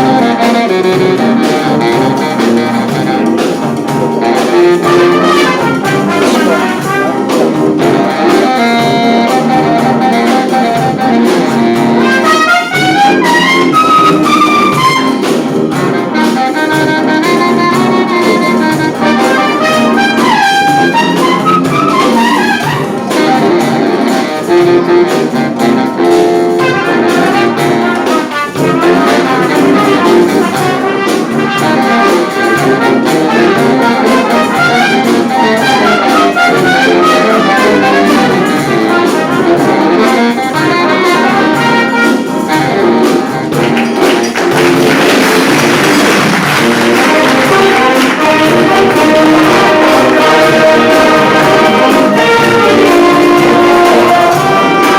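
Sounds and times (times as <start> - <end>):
brass band playing: 0.0 - 54.9.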